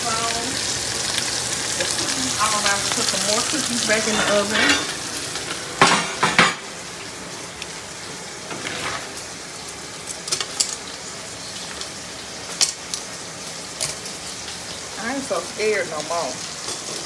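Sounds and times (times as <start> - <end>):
steak sizzling in a skillet: 0.0 - 17.0.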